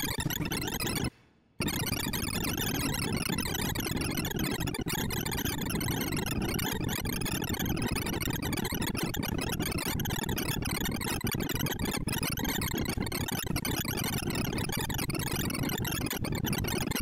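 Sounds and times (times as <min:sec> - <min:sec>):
stream of synthesized blips: 0:00.0 - 0:17.0.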